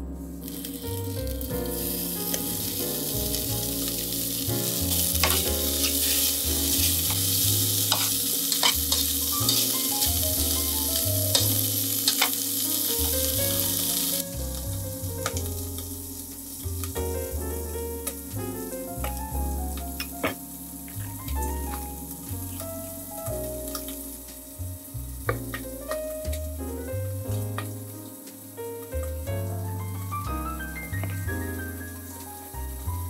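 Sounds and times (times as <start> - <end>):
background music with low bass: 0.0 - 33.0
bacon sizzling in a pot: 0.4 - 33.0.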